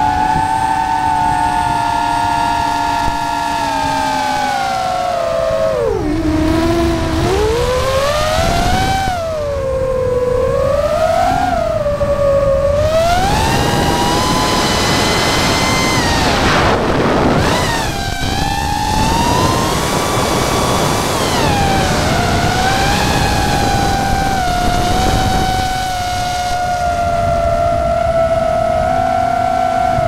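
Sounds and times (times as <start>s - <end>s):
drone motors whining: 0.0s - 30.0s
rush of air noise: 5.4s - 30.0s.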